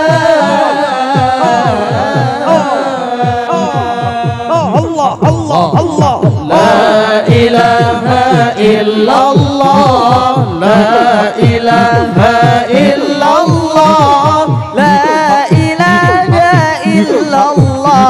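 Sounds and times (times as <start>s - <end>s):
fast low drum beat: 0.0s - 18.0s
male voices holding notes: 0.0s - 18.0s
man singing ornamented melody: 0.0s - 18.0s.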